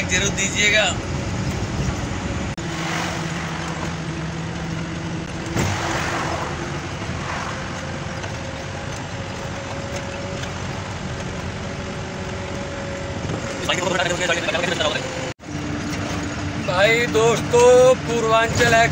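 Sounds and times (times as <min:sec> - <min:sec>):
road rumble: 0:00.0 - 0:18.9
truck engine hum: 0:00.0 - 0:18.9.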